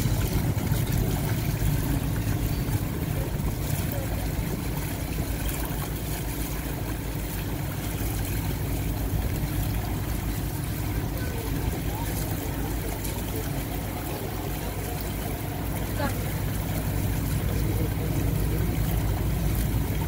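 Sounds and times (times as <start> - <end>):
boat engine droning: 0.0 - 20.0
water splashing along hull: 0.0 - 20.0.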